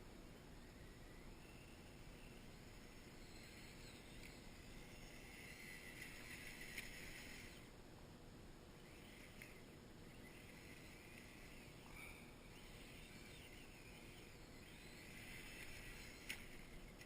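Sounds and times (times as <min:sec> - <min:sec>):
steady hiss: 0:00.0 - 0:17.0
electric motor whine: 0:00.6 - 0:07.7, 0:08.8 - 0:17.0.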